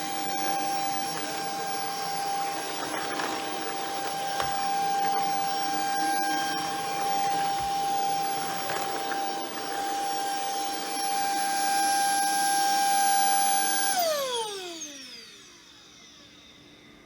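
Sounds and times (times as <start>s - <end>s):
vacuum cleaner motor whine: 0.0s - 17.0s
vacuum motor spinning down: 0.0s - 17.0s.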